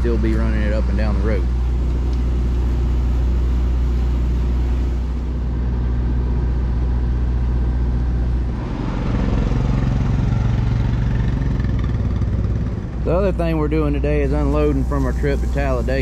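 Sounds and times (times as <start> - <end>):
atv engine running close: 0.0 - 14.8
engine running steadily: 0.0 - 16.0.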